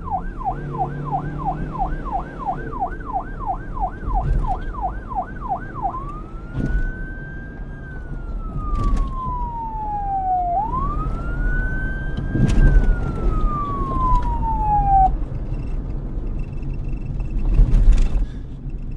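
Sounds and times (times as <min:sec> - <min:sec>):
police siren yelp and wail: 0:00.0 - 0:15.2.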